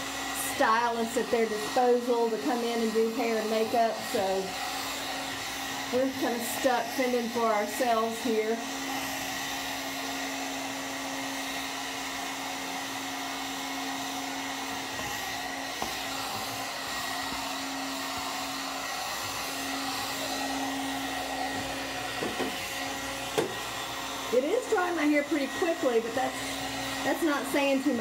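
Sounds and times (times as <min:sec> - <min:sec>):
hot-air brush blowing air: 0:00.0 - 0:28.0.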